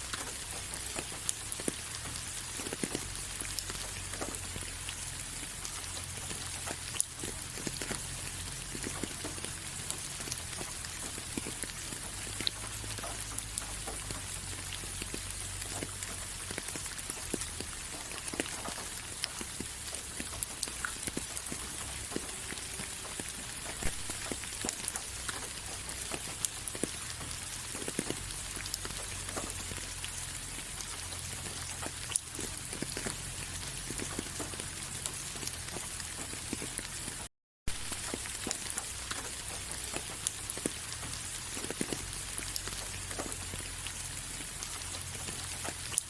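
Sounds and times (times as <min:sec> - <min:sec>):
rain falling: 0:00.0 - 0:46.0.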